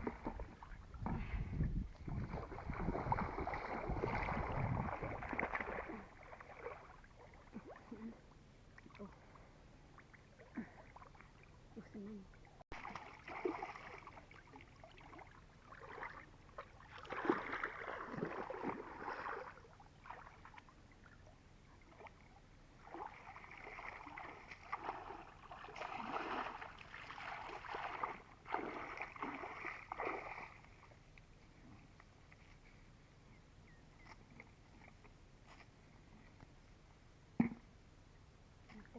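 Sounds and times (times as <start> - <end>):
water splashing and sloshing: 0.0 - 32.7.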